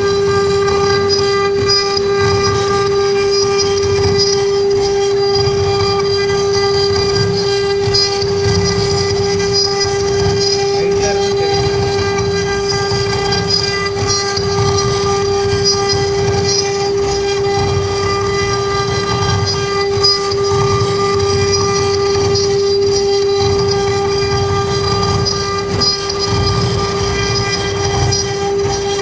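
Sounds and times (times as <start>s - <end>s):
spindle motor high-pitched whine: 0.0s - 29.0s.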